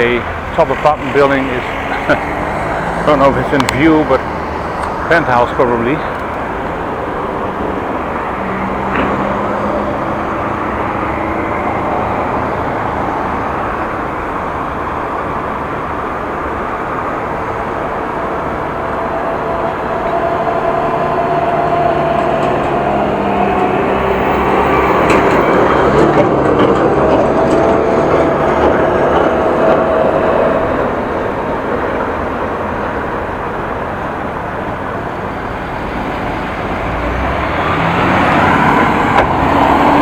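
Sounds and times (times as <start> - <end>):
road noise: 0.0 - 40.0
vehicles passing: 0.0 - 40.0.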